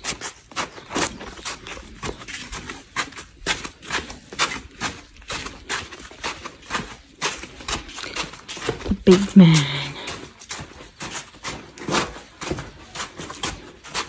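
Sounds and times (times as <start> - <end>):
footsteps on sand: 0.0 - 14.0.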